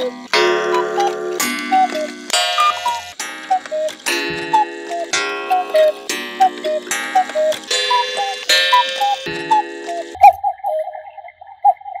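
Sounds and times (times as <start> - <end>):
cuckoo clock calls: 0.0 - 10.8.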